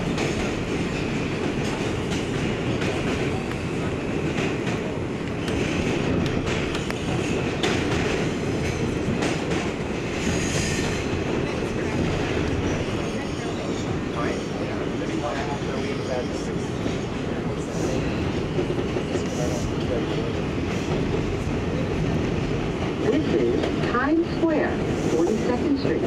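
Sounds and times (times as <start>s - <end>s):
subway wheels rumbling on rails: 0.0s - 26.0s.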